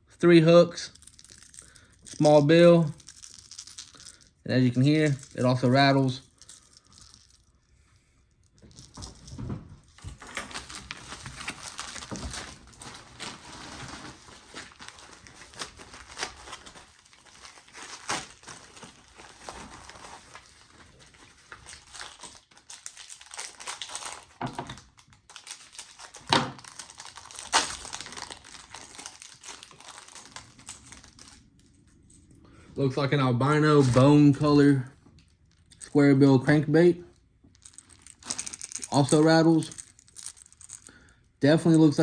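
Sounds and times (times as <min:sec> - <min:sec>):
plastic packaging crinkling: 0:00.9 - 0:07.7, 0:08.6 - 0:32.2, 0:37.1 - 0:41.1.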